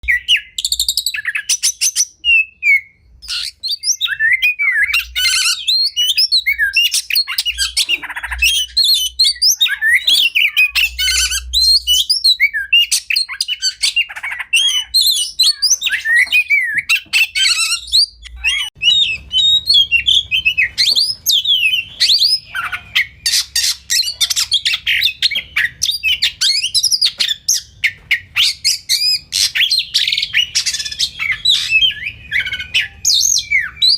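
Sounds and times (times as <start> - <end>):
bird singing varied song: 0.0 - 33.9.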